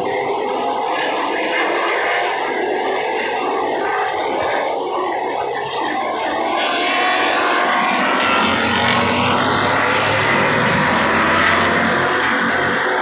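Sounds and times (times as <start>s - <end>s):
race cars passing at speed: 0.4s - 13.0s.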